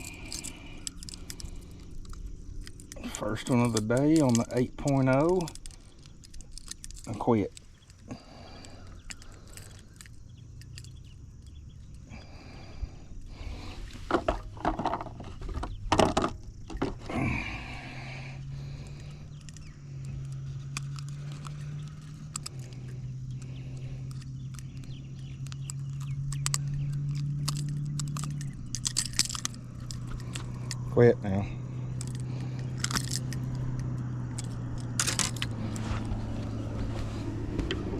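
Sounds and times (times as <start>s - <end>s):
handling knocks and clicks: 0.0s - 12.0s, 13.9s - 17.2s, 18.8s - 31.0s, 31.9s - 37.9s
low electric motor hum: 4.7s - 37.9s.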